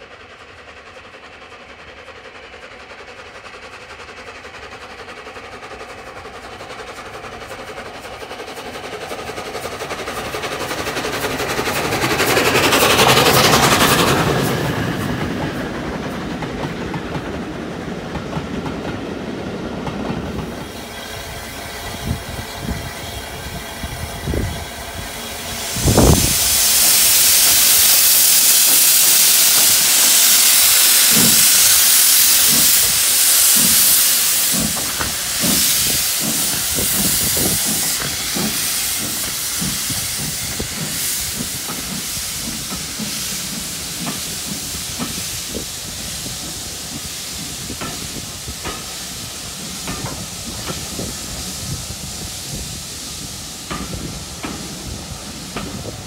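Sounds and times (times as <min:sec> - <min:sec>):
steam hissing from locomotive: 0:00.0 - 0:56.0
steam locomotive exhaust chuffs: 0:00.0 - 0:56.0
train coaches rumbling on track: 0:00.0 - 0:56.0.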